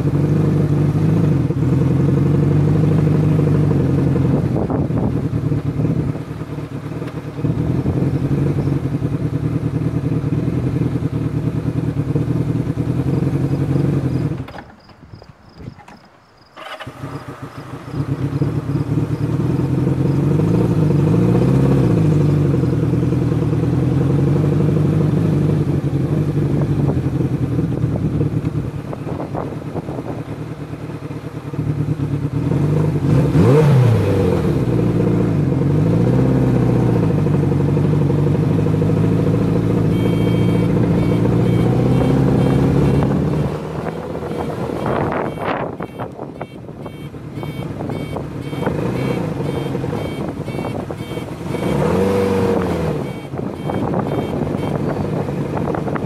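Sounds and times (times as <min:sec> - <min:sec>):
motorcycle engine revving: 0:00.0 - 0:14.9, 0:15.6 - 0:56.0.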